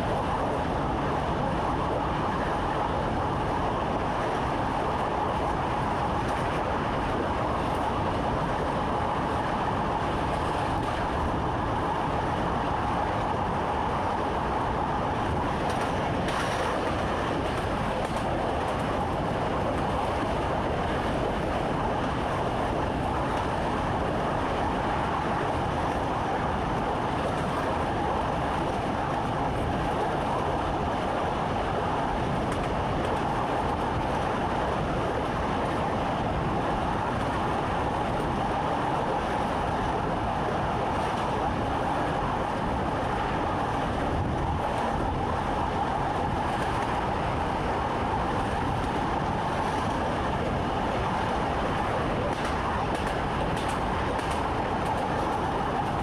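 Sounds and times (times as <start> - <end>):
train rumble and rail noise: 0.0 - 56.0.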